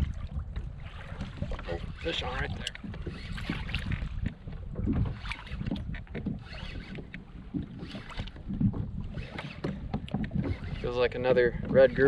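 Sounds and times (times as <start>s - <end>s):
water slapping kayak hull: 0.0s - 12.0s
wind on microphone: 0.0s - 12.0s.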